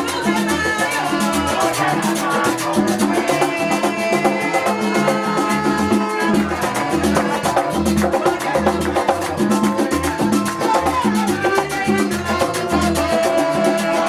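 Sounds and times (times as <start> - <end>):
upbeat latin dance music: 0.0 - 14.0.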